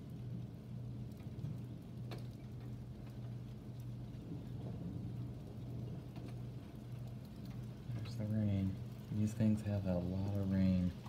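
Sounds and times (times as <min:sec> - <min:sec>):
raindrops tapping: 0:00.0 - 0:11.0
steady low hum: 0:00.0 - 0:11.0.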